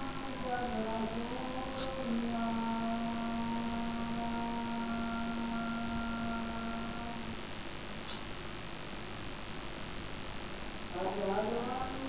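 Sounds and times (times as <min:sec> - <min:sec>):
background hiss: 0:00.0 - 0:12.0
steady hum with overtones: 0:00.0 - 0:12.0.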